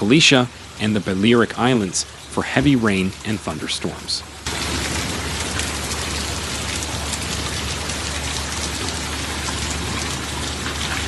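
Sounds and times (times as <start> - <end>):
heavy rain on hard surfaces: 0.0 - 11.0.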